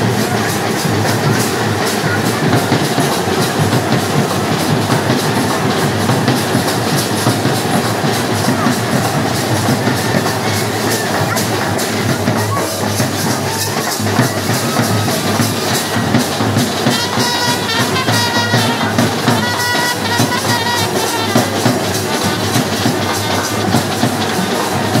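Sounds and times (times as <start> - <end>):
drums beating fast rhythm: 0.0 - 25.0
wind instrument melody: 0.0 - 25.0.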